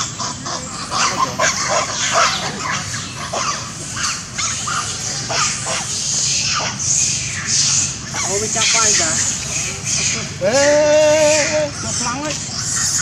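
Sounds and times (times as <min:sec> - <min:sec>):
monkeys squeaking and chirping: 0:00.0 - 0:13.0.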